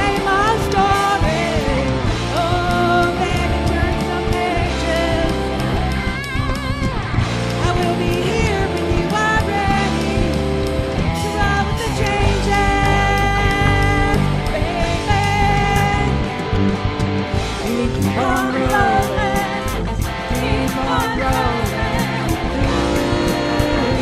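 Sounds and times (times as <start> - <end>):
woman singing: 0.0 - 10.6, 11.2 - 16.3, 17.6 - 24.0
drums: 0.0 - 24.0
electric guitar: 0.0 - 24.0
live rock band playing: 0.0 - 24.0.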